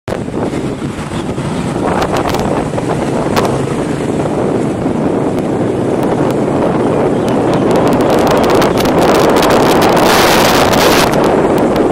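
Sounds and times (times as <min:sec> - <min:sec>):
motorbike engine: 0:00.1 - 0:11.9
road noise: 0:00.1 - 0:11.9
wind buffeting crackles: 0:00.1 - 0:11.9
wind rushing over microphone: 0:00.1 - 0:11.9.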